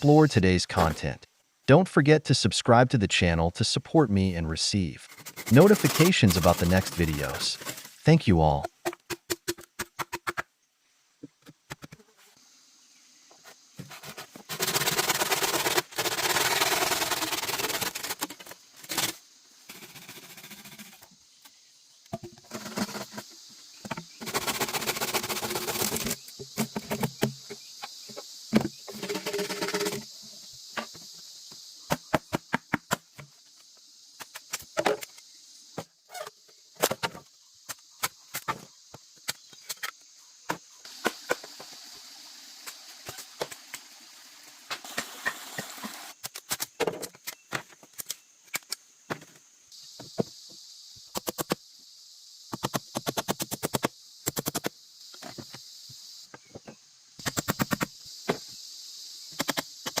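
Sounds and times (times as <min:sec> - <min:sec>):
high insect drone: 0:03.2 - 0:11.2, 0:11.9 - 1:00.0.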